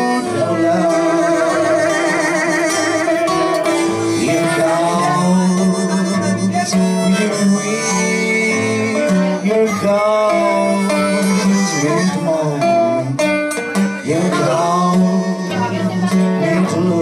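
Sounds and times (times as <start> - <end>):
blues harmonica playing: 0.0 - 17.0
guitar accompaniment: 0.0 - 17.0.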